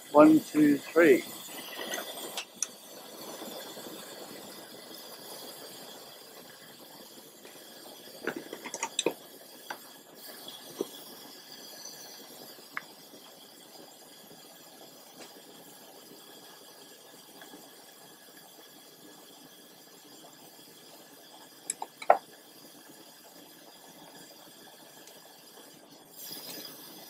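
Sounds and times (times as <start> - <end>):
burner flame hissing: 0.0 - 27.0.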